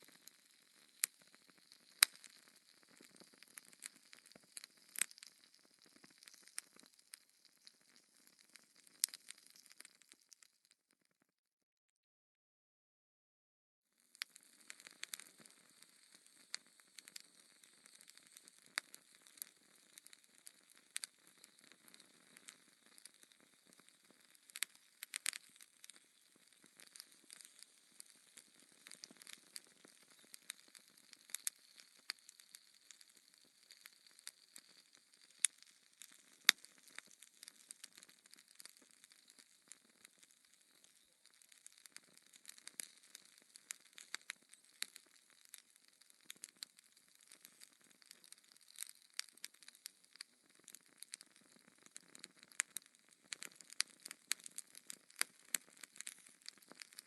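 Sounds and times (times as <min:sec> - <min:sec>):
wood fire crackling: 0:00.0 - 0:10.8, 0:14.1 - 0:57.0.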